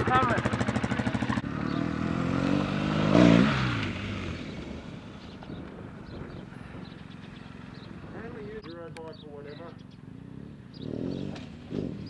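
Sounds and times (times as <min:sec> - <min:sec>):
motorcycle engine revving past: 0:00.0 - 0:08.3, 0:09.9 - 0:12.0.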